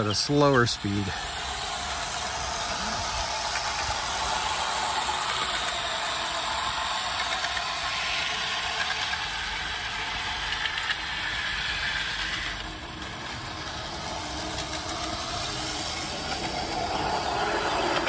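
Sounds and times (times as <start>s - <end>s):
model train rattling on metal track: 0.0s - 18.0s.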